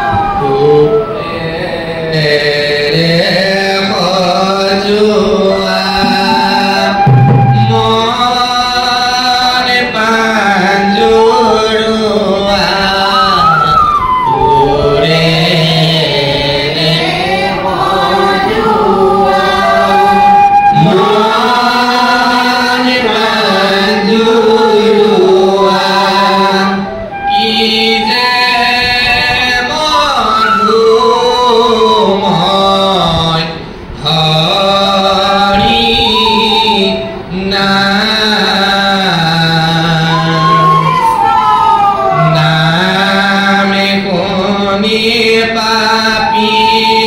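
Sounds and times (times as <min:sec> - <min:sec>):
person singing devotional song: 0:00.0 - 0:47.0.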